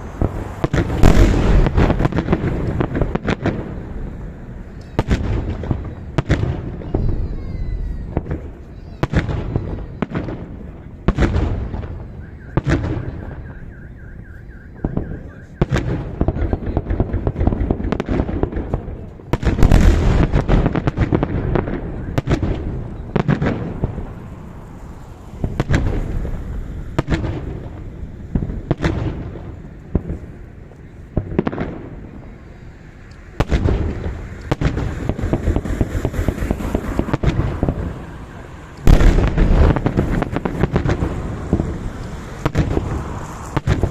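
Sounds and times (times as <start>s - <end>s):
fireworks bangs with echo: 0.0s - 43.9s.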